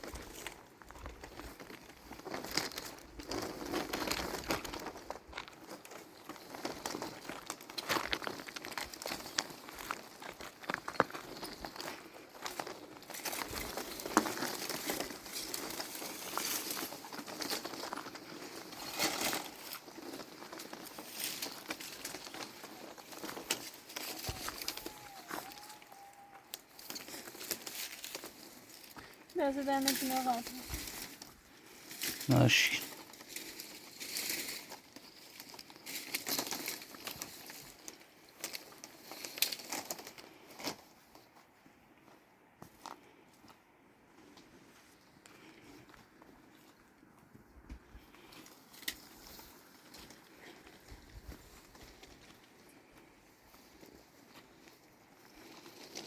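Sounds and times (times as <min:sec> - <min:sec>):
rustling and crinkling: 0:00.0 - 0:56.0.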